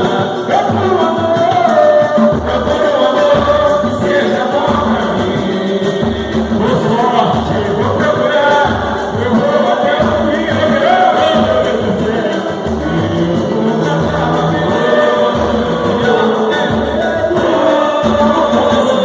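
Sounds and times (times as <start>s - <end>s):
dense samba percussion: 0.0s - 19.0s
people singing: 0.0s - 19.0s.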